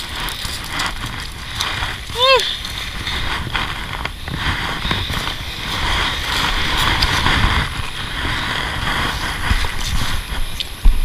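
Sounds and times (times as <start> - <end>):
waves washing over pebbles: 0.0 - 10.9
wind rumbling on microphone: 0.0 - 11.0.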